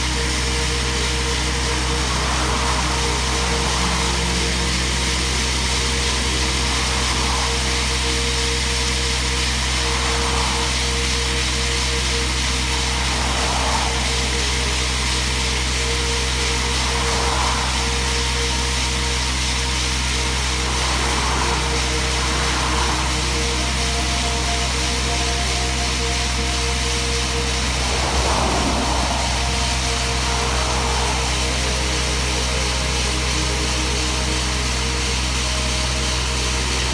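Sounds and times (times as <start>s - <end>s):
core drill grinding hiss: 0.0s - 36.9s
diesel engine drone: 0.0s - 36.9s.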